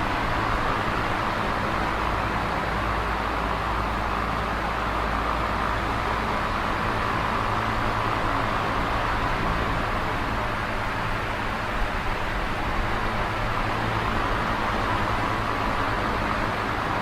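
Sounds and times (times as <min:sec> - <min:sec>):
box fan air rush with motor hum: 0:00.0 - 0:17.0.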